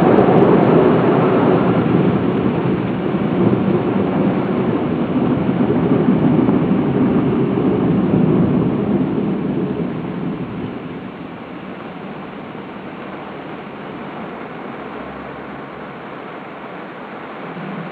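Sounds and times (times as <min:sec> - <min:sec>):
car wash water and machinery rushing: 0:00.0 - 0:17.9.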